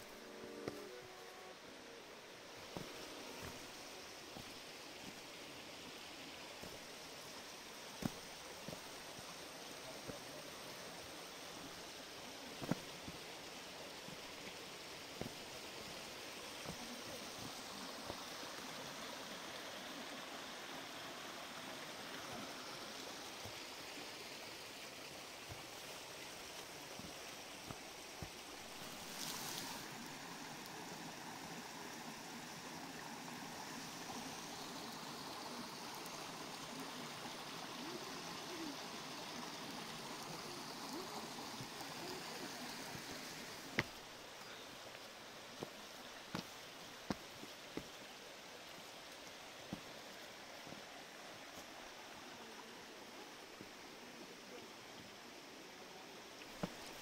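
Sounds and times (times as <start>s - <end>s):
mountain stream rushing: 0.0s - 57.0s.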